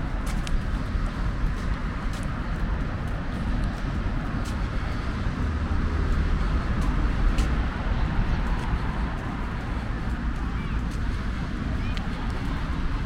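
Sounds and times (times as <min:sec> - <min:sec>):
cars passing rumble: 0:00.0 - 0:13.0.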